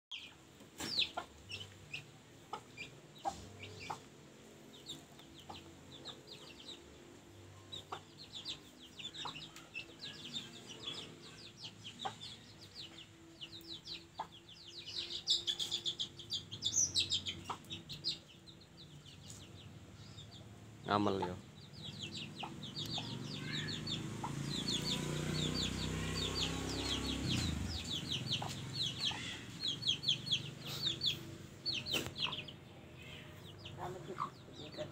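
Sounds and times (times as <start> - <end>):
hen clucking: 0.1 - 4.2, 7.7 - 18.3, 20.9 - 34.9
chicks peeping: 0.1 - 34.9.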